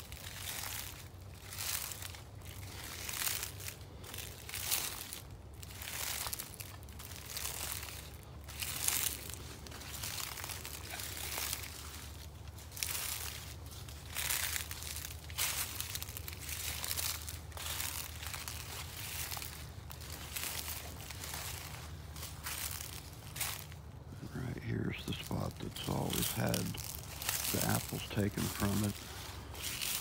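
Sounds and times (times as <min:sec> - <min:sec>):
footsteps crunching dry leaves: 0:00.0 - 0:30.0.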